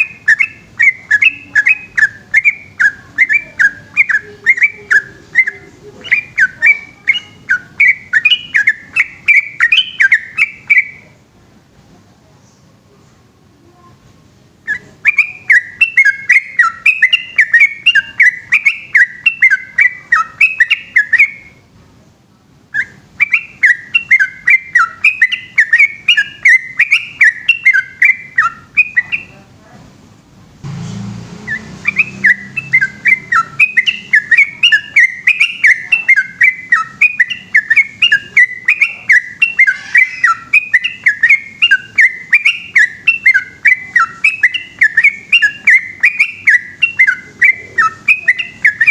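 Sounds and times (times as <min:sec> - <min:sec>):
bulbul singing bubbly whistles: 0:00.0 - 0:11.0, 0:14.7 - 0:21.6, 0:22.7 - 0:29.3, 0:31.5 - 0:48.9.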